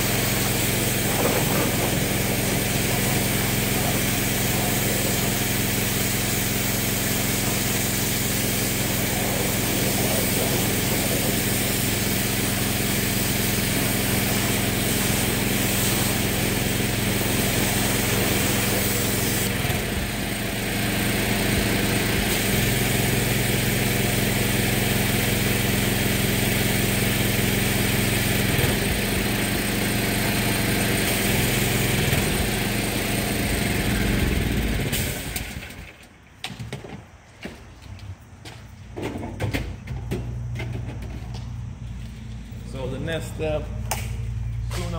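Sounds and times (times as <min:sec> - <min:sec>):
pressure washer spraying water: 0:00.0 - 0:36.0.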